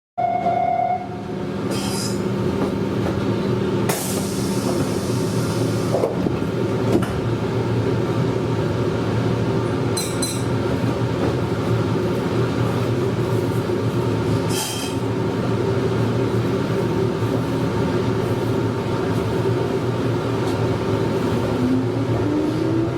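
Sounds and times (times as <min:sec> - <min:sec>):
electric train running hum: 0:00.2 - 0:22.9.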